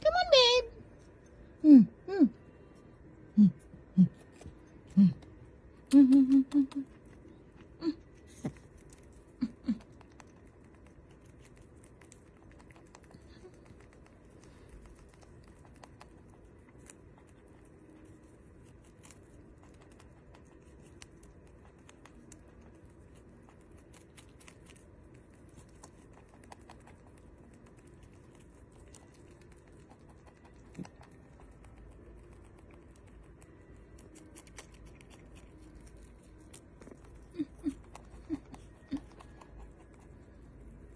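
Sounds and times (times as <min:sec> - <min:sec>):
rabbit chewing and munching: 0:00.0 - 0:40.9.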